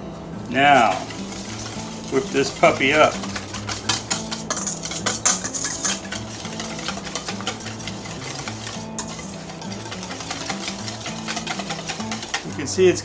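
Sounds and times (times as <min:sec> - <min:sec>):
wire whisk scraping metal bowl: 0:00.5 - 0:13.0.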